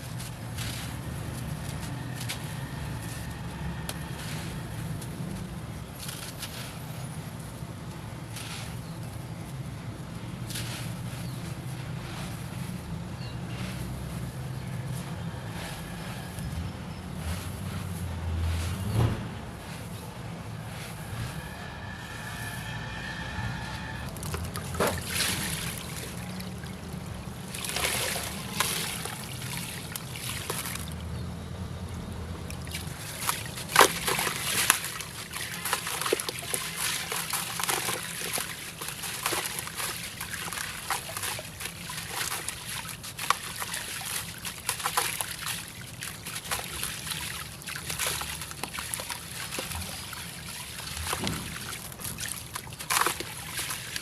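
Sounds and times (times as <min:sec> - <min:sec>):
water sloshing and trickling: 0:00.0 - 0:54.0.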